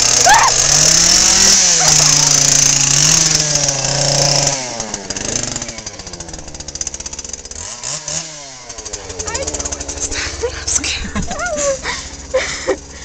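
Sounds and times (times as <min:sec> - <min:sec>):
electric chainsaw whining: 0:00.0 - 0:13.0.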